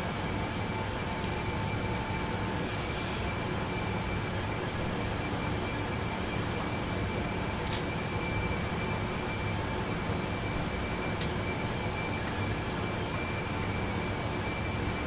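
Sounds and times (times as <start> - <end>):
background hum and hiss: 0.0 - 15.0.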